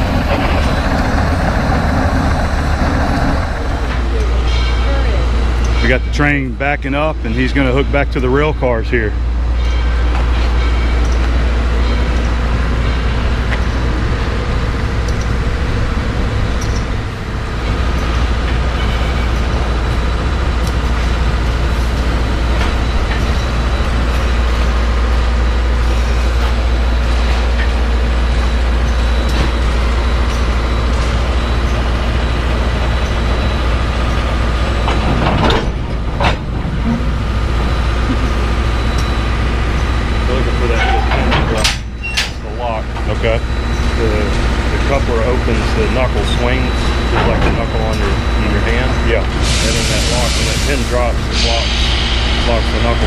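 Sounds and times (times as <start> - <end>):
steam locomotive rumble and hiss: 0.0 - 53.0.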